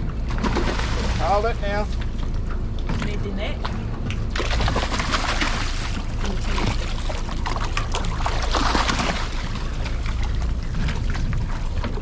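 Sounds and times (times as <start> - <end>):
boat engine humming: 0.0 - 12.0
water splashing against hull: 0.0 - 12.0.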